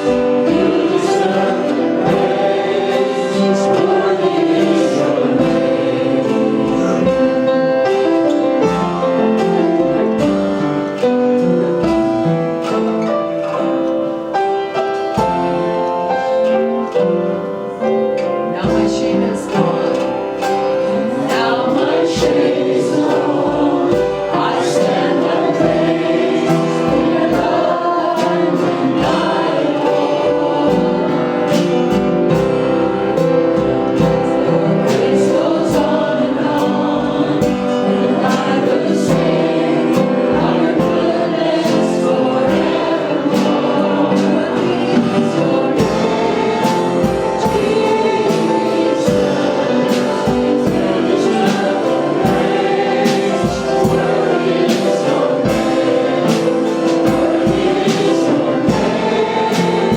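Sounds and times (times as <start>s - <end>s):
choir singing: 0.0s - 59.9s
instrumental accompaniment with beat: 0.0s - 59.9s.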